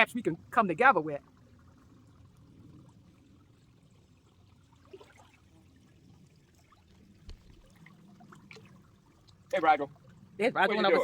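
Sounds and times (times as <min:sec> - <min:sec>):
faint creek water trickling: 0:00.0 - 0:11.0.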